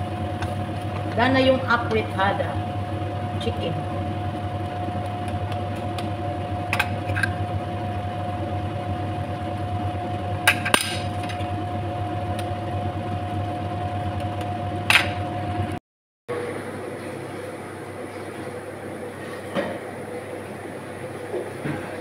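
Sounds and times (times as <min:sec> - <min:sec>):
mechanical kitchen hum: 0:00.0 - 0:22.0.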